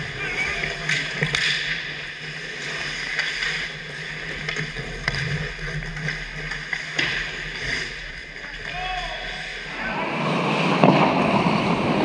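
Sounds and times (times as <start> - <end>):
hockey sticks and puck clacking: 0.0 - 12.0
skate blades scraping ice: 0.0 - 12.0.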